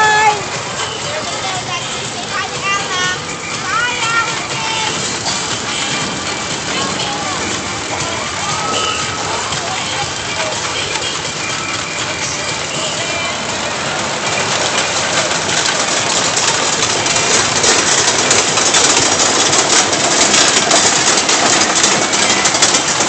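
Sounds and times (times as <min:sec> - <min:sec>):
roller coaster rattling: 0:00.0 - 0:23.0.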